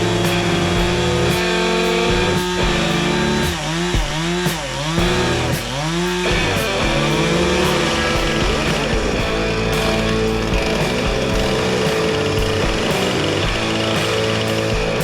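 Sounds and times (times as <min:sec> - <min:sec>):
distorted electric guitar: 0:00.0 - 0:15.0
steady drum beat: 0:00.0 - 0:15.0.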